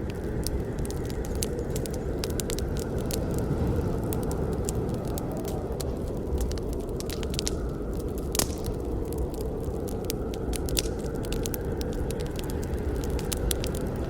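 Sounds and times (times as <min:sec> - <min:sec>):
fire hissing: 0:00.0 - 0:14.0
logs crackling and popping: 0:00.0 - 0:14.0.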